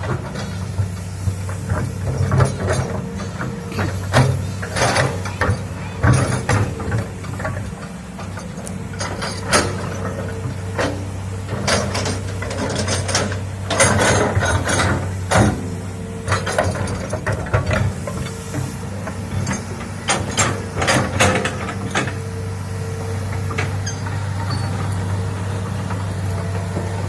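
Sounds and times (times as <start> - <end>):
metallic clanks and creaks: 0.0 - 22.2, 23.3 - 25.1
excavator diesel engine running: 0.0 - 27.0.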